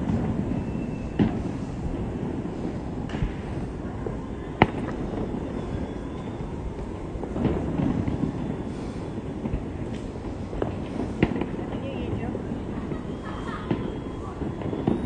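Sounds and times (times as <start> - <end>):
distant fireworks bangs: 0.0 - 15.0.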